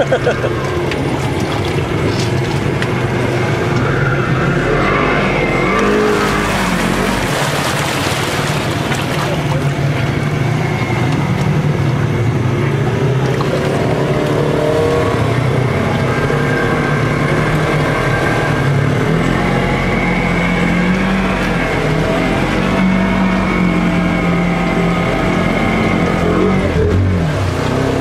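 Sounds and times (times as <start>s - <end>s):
engine running under load: 0.0s - 28.0s
water churning and splashing: 0.0s - 28.0s.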